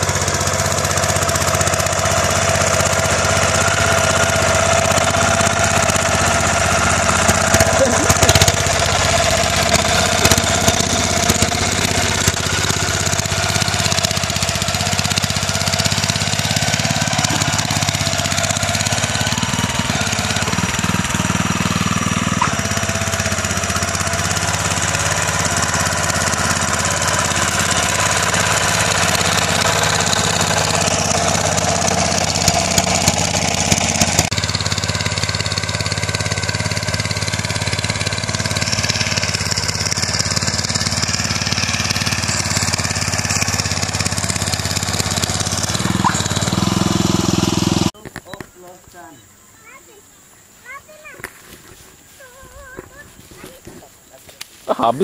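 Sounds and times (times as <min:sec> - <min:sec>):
tines churning dry soil: 0:00.0 - 0:48.0, 0:50.6 - 0:55.0
rotary tiller engine running: 0:00.0 - 0:48.1.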